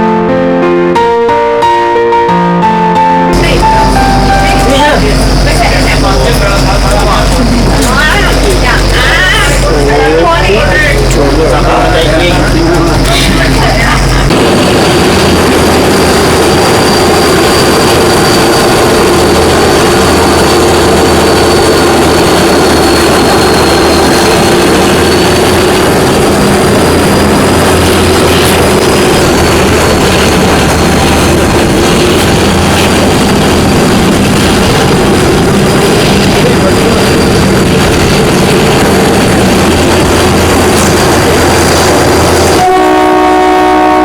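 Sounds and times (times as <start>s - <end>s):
high whine: 0.0s - 44.0s
train rumble: 1.0s - 44.0s.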